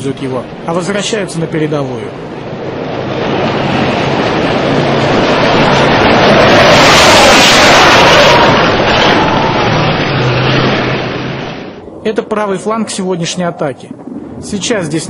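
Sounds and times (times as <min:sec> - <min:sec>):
tank engine and tracks: 0:00.0 - 0:15.0.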